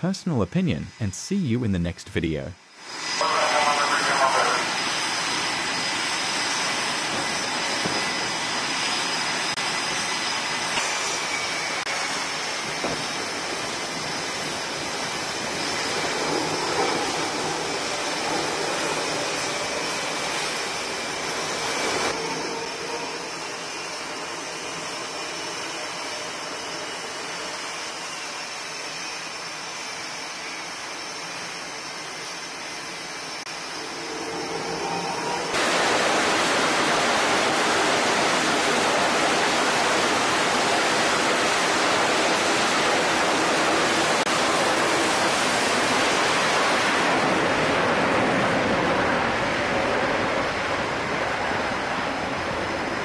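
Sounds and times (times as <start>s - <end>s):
jet engine rushing with whine: 0.0s - 53.0s.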